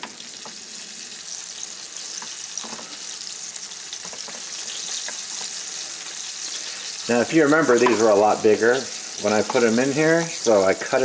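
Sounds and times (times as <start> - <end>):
meat sizzling in hot oil: 0.0 - 11.0
oil popping and crackling: 0.0 - 11.0.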